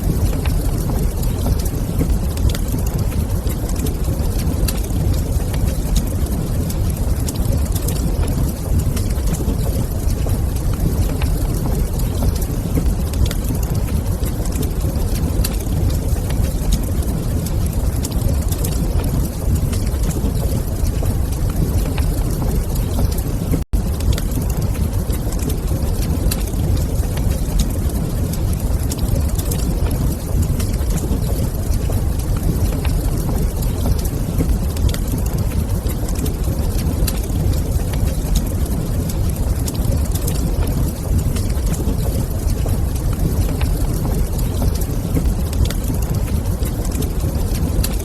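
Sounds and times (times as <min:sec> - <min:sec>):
fire burning low rumble: 0:00.0 - 0:48.0
fire crackling: 0:00.0 - 0:48.0.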